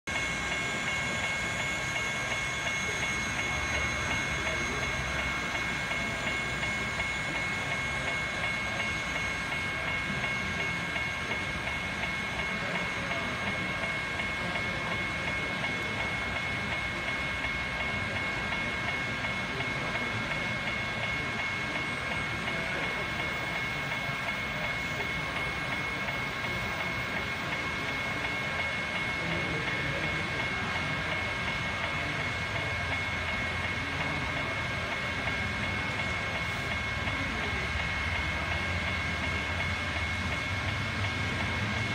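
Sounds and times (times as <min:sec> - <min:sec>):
high steady whining tones: 0:00.1 - 0:41.9
model train running on track: 0:00.1 - 0:41.9.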